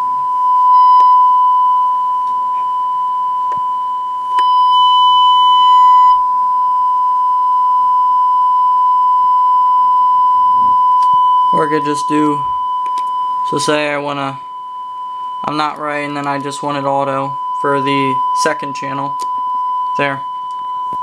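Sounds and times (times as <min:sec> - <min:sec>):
high-pitched test tone: 0:00.0 - 0:21.0
higher beeping tone: 0:00.0 - 0:21.0.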